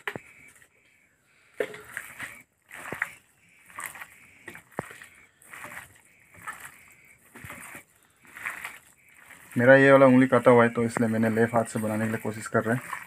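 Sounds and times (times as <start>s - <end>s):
hand squelching raw chicken: 1.6s - 13.0s.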